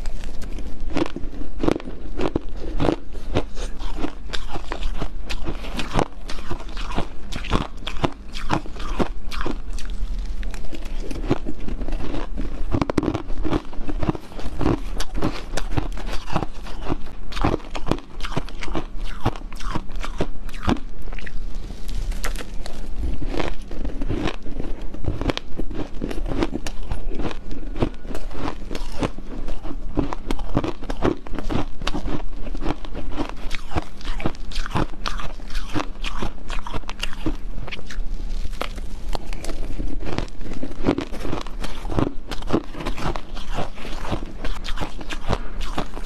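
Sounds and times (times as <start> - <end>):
person chewing ice: 0.0 - 46.0.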